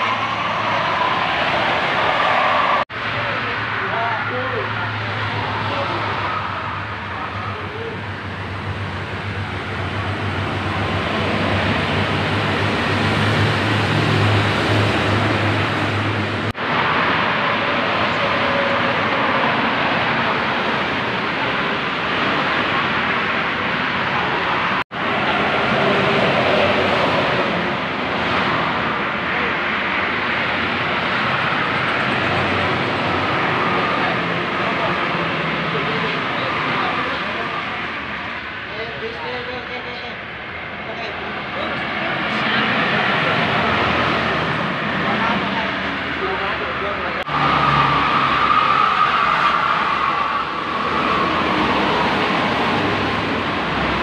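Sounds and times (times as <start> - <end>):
road traffic noise: 0.0 - 54.0
coach bus passing close by: 4.8 - 36.0, 41.6 - 54.0.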